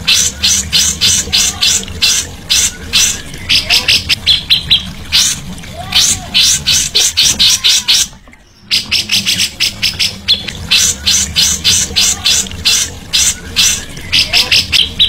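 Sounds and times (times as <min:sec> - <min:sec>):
songbird calling high notes: 0:00.0 - 0:15.0.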